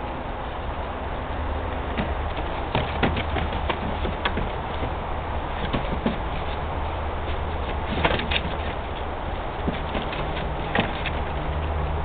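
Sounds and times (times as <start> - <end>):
paws clicking on plastic: 1.9 - 11.8.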